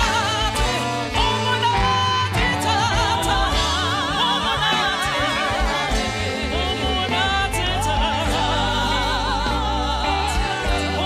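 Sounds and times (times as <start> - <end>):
music with low bass: 0.0 - 11.0
voices singing with vibrato: 0.0 - 11.0.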